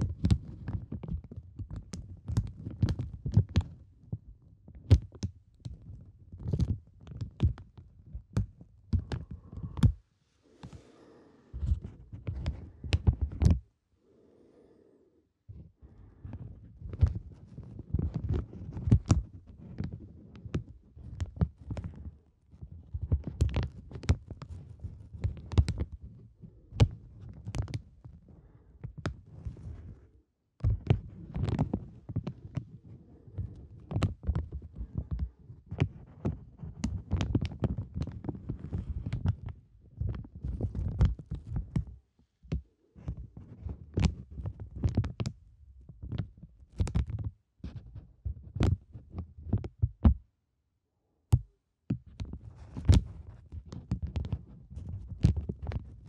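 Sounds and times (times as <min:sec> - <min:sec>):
plastic rubbing microphone thumps: 0:00.0 - 0:10.9, 0:11.5 - 0:13.7, 0:15.5 - 0:30.0, 0:30.6 - 0:50.3, 0:51.3 - 0:56.0.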